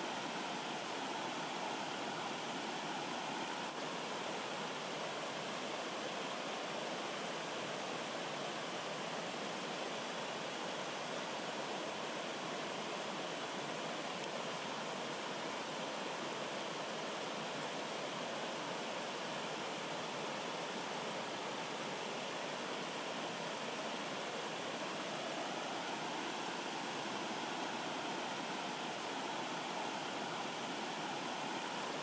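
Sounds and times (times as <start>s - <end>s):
stream rushing over rocks: 0.0s - 32.0s.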